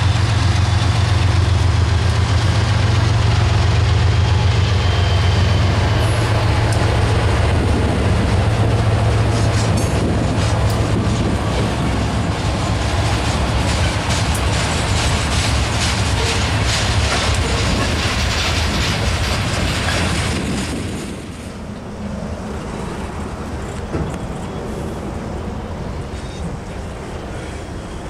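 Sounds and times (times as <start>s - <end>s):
train wheels clattering over rails: 0.0s - 21.6s, 22.6s - 24.7s.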